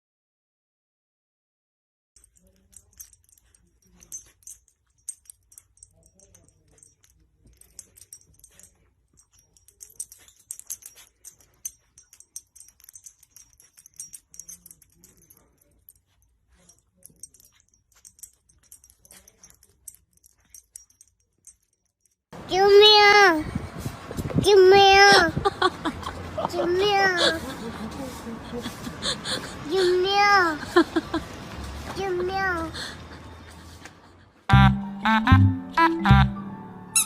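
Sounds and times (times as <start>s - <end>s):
metallic jingling and clicking: 2.2s - 23.3s, 24.3s - 34.3s.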